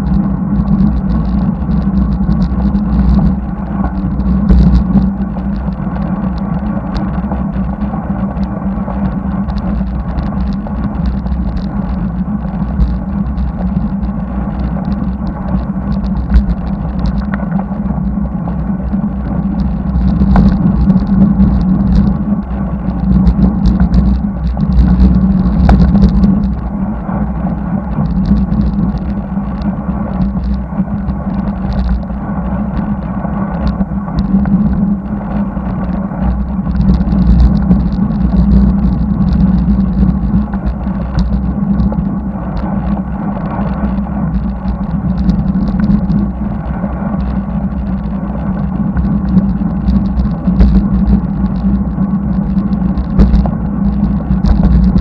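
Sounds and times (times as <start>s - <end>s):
bicycle tyres humming on asphalt: 0.0s - 55.0s
wind rumbling over microphone: 0.0s - 55.0s.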